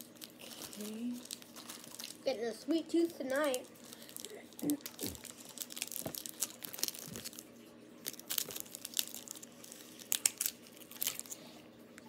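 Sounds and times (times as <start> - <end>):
candy wrapper crinkling: 0.0 - 11.6.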